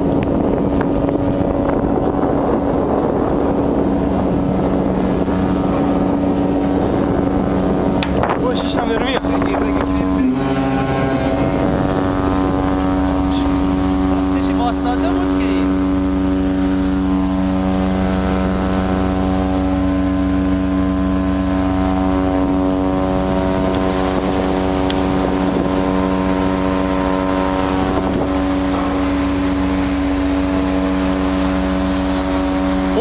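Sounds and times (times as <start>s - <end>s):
loud low ship drone: 0.0s - 33.0s
wind noise: 0.0s - 33.0s.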